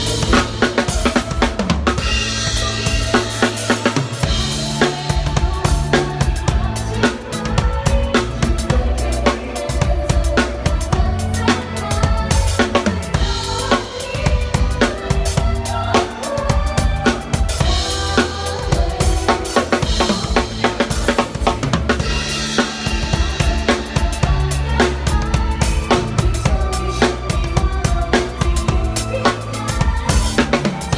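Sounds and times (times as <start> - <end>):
drum kit playing a groove: 0.0 - 30.9
pop backing track: 0.0 - 30.9.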